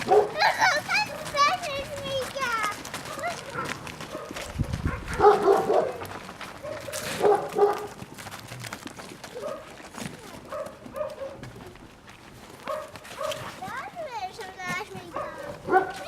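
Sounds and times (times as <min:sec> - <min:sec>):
puppies barking and yipping: 0:00.0 - 0:08.2, 0:09.2 - 0:11.9, 0:12.6 - 0:16.0.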